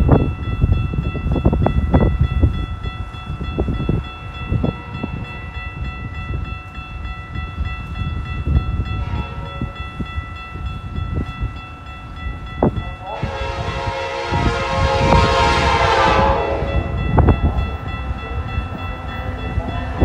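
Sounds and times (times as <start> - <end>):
railroad crossing bells ringing: 0.0 - 20.0
wind buffeting microphone: 0.0 - 20.0.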